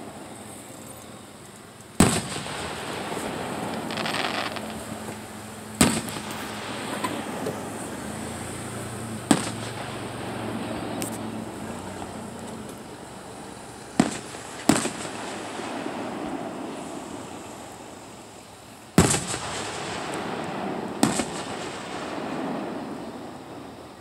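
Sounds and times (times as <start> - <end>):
background murmur: 0.0 - 24.0
distant firework bangs: 2.0 - 24.0.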